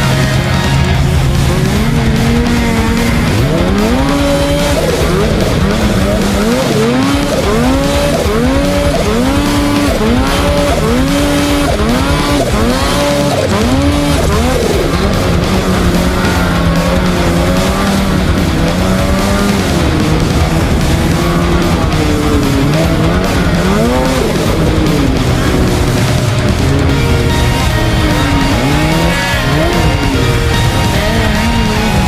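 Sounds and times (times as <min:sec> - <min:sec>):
loud rock music: 0:00.0 - 0:32.0
snowmobile engine revving: 0:00.0 - 0:32.0.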